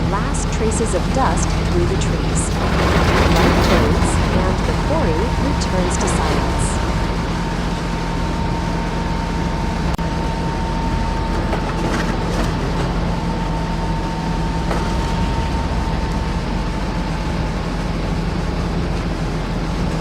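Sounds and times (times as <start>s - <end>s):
machine whine and hum: 0.0s - 20.0s.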